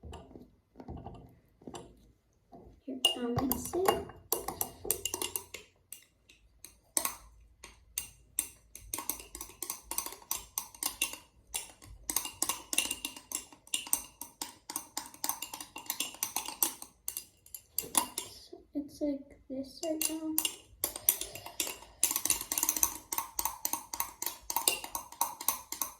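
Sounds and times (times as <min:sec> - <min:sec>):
utensil stirring slime in cup: 0:02.9 - 0:18.5, 0:19.7 - 0:25.9
utensil tapping cup: 0:03.0 - 0:18.4, 0:19.8 - 0:25.9.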